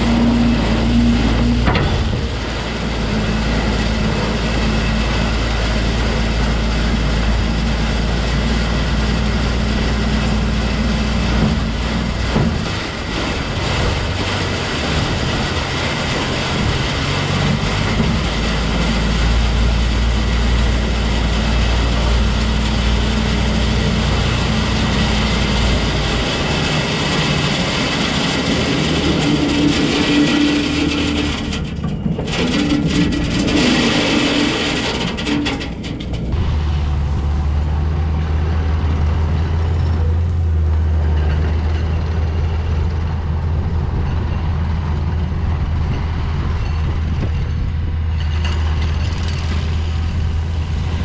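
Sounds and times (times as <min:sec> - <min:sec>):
diesel truck engine droning: 0:00.0 - 0:51.0
road noise: 0:00.0 - 0:51.0.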